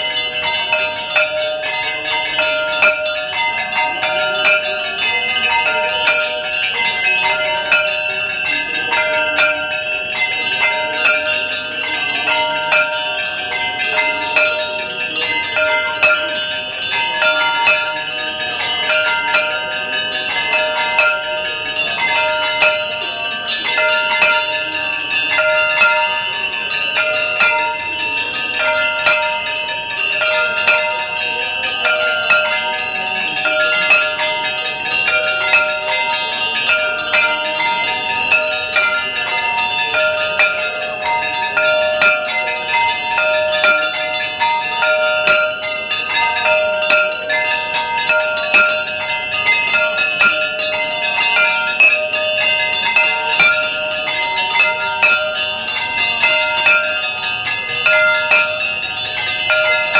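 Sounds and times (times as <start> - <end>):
temple bells ringing: 0.0 - 59.9.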